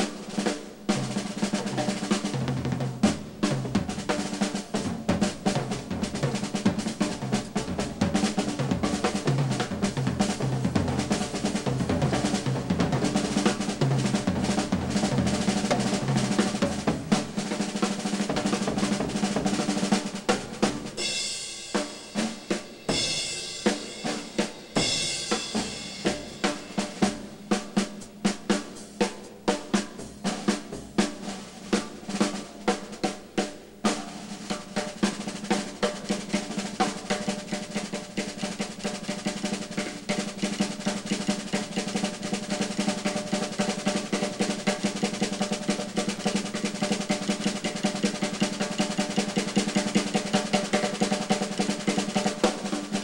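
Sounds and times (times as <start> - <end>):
drum kit solo: 0.0 - 53.0.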